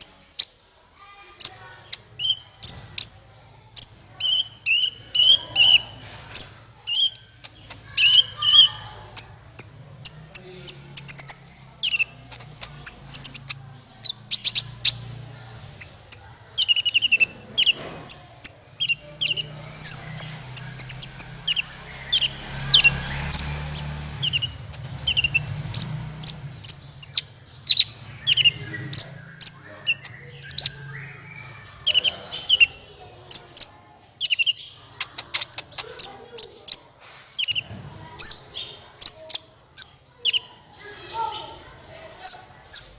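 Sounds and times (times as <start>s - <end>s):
bird singing high chirps and trills: 0.0s - 0.7s, 1.3s - 42.9s.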